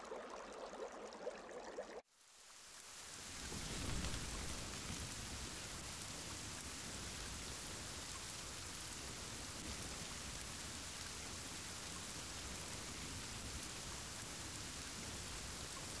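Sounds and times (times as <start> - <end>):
steady rain: 2.1 - 16.0.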